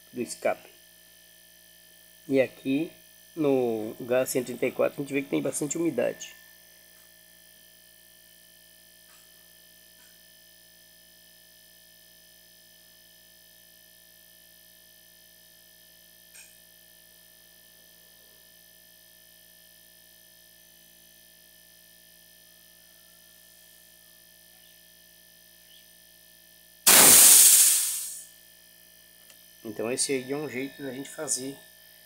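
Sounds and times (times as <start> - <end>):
refrigerator compressor humming: 0.0 - 27.3.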